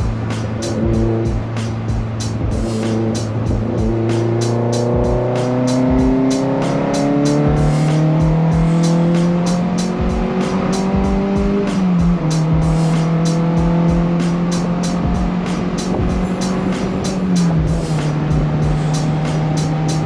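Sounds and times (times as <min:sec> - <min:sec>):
car engine revving under load: 0:00.0 - 0:20.0
music with steady beat: 0:00.0 - 0:20.0.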